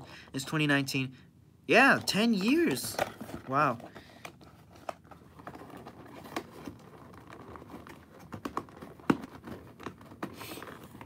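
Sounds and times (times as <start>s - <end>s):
cardboard box clicks and rustles: 2.1s - 11.0s.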